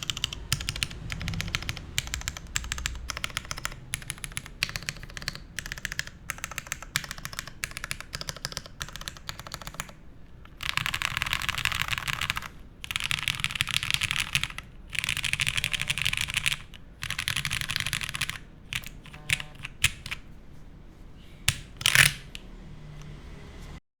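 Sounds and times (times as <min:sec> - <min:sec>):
typing on mechanical keyboard: 0:00.0 - 0:20.2, 0:21.5 - 0:22.4.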